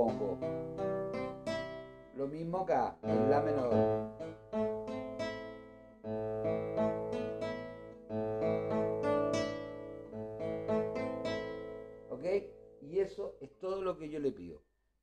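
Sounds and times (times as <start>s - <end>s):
acoustic guitar picked chords: 0.0s - 13.6s.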